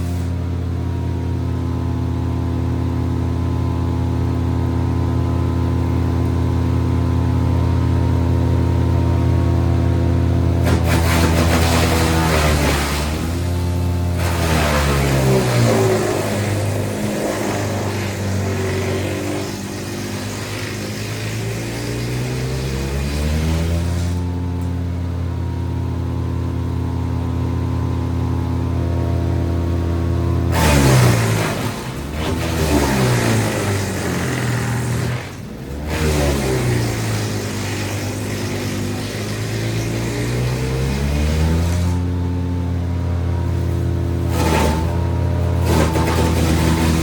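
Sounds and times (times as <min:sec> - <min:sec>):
wood shredding: 0:00.0 - 0:26.8, 0:27.8 - 0:47.0
wood chipper engine running hard: 0:00.0 - 0:47.0.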